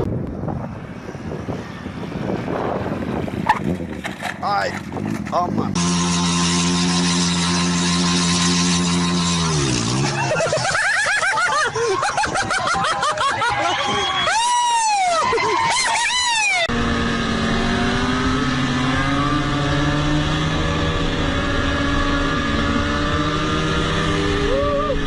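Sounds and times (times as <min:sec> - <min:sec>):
steady engine drone: 0:00.0 - 0:12.2, 0:16.5 - 0:25.0
vehicle engines revving: 0:00.0 - 0:25.0.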